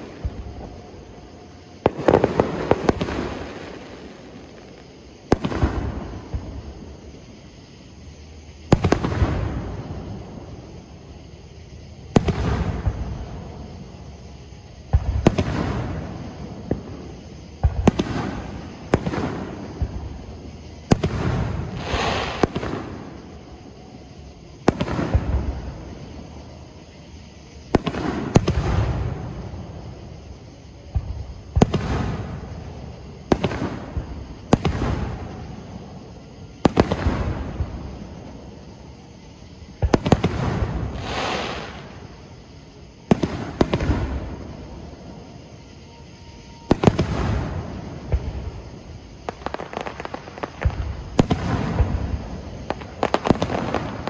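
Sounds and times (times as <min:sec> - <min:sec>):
fireworks bursting: 0:00.0 - 0:54.0
fireworks crackle: 0:00.0 - 0:54.0.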